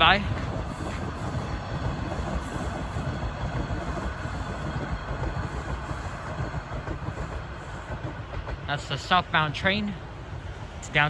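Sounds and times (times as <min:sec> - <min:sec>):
subway train rumbling past: 0:00.0 - 0:11.0.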